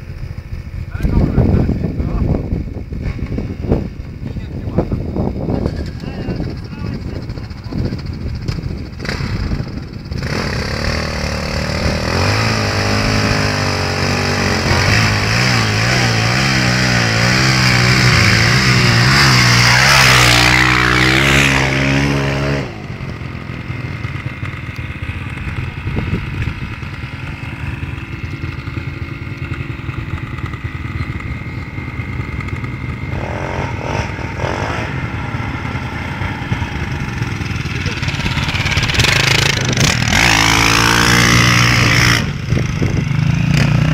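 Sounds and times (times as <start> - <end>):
dirt bike engines revving: 0.0 - 43.9
distant motorcycle running: 0.0 - 43.9.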